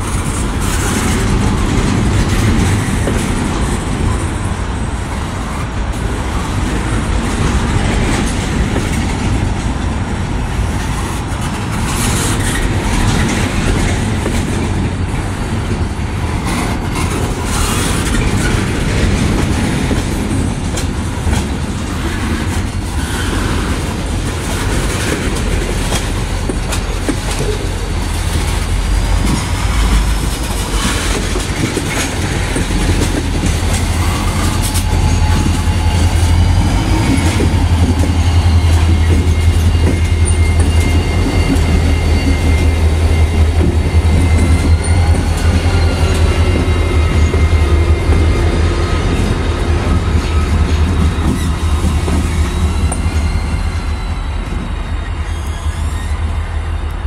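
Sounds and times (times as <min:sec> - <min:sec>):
diesel locomotive engine drone: 0:00.0 - 0:57.0
train wheels clattering on rails: 0:00.0 - 0:57.0.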